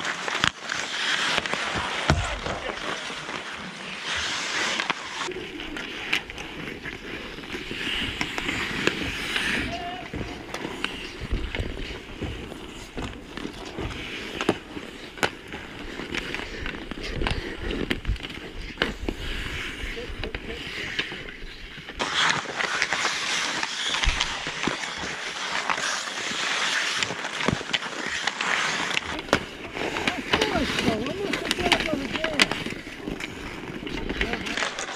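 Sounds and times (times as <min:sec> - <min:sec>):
hockey sticks and puck clacking: 0:00.0 - 0:34.9
skate blades scraping ice: 0:00.0 - 0:34.9.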